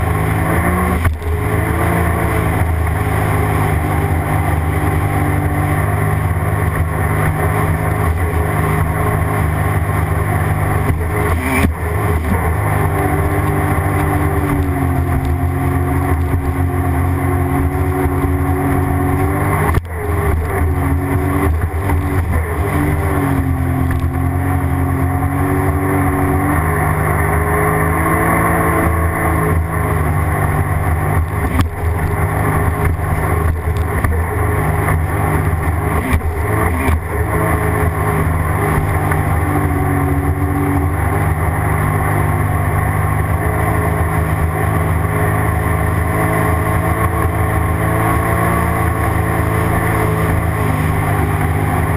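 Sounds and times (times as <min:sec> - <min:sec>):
jet ski engine cruising: 0:00.0 - 0:51.9.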